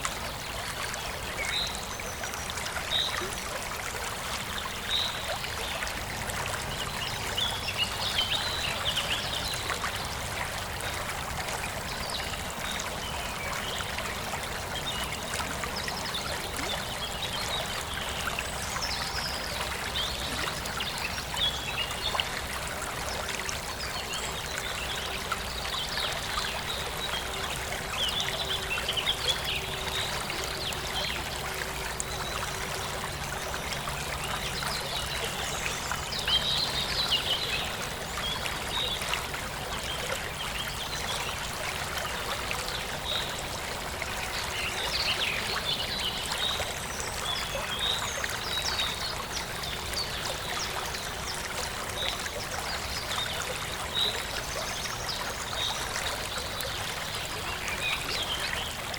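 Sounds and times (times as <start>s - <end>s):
stream running over stones: 0.0s - 58.9s.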